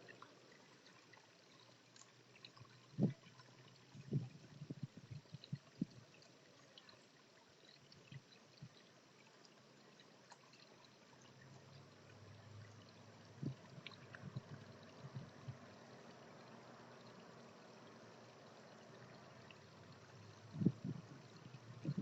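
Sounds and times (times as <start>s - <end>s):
small ticks: 0.0s - 22.0s
water trickling: 0.0s - 22.0s.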